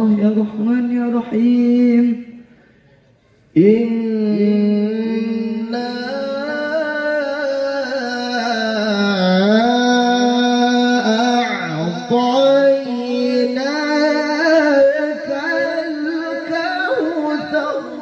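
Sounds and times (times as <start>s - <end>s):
man chanting recitation: 0.0s - 2.6s, 3.5s - 18.0s.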